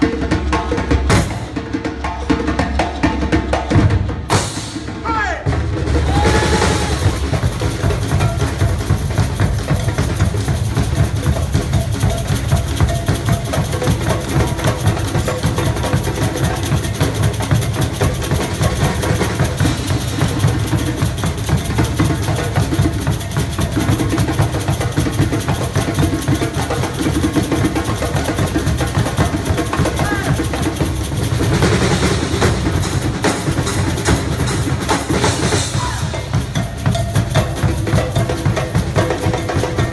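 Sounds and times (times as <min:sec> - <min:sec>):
percussion ensemble drumming: 0:00.0 - 0:39.9.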